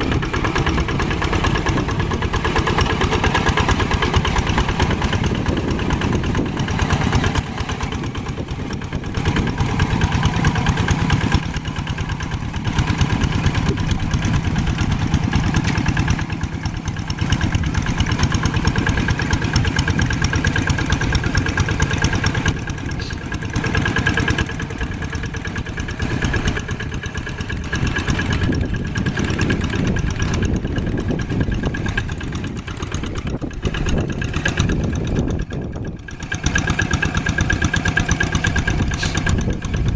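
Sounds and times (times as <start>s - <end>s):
old tractor engine running: 0.0s - 39.9s.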